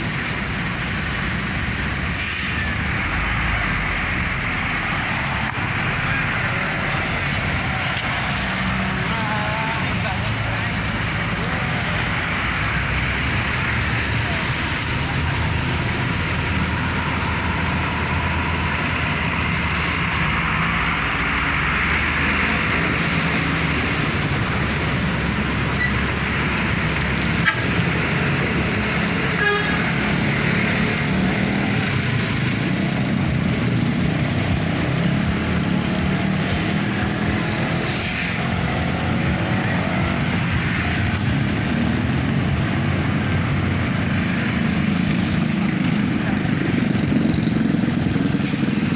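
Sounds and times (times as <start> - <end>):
road traffic engines: 0.0 - 48.9.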